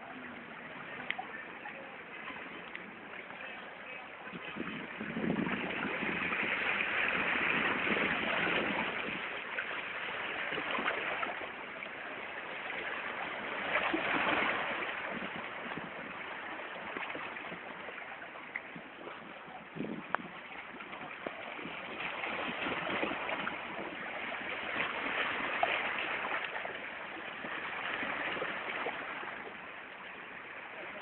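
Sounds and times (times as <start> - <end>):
sea waves washing in: 0.0 - 31.0.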